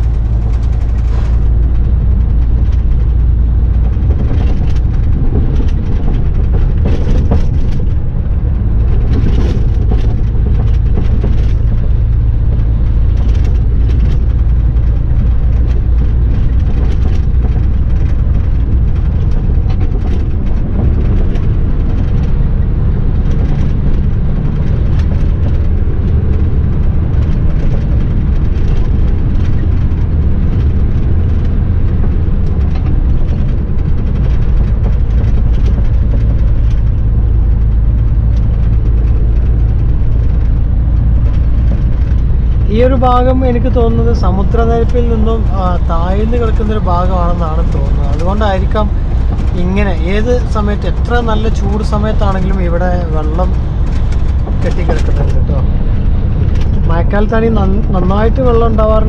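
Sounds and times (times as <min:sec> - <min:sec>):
diesel engine droning: 0:00.0 - 0:59.0
knocks and rattles: 0:00.0 - 0:59.0.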